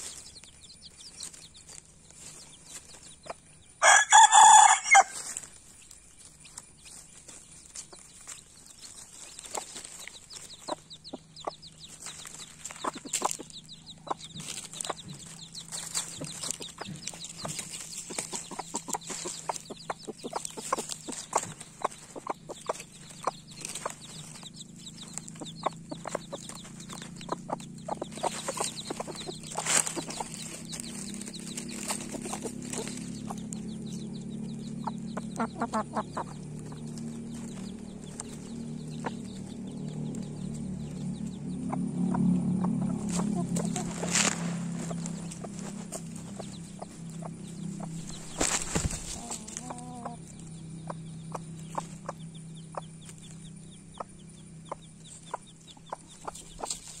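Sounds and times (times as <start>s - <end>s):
hen clucking: 0.0s - 57.0s
pecking taps and rustles in leaves: 0.0s - 57.0s.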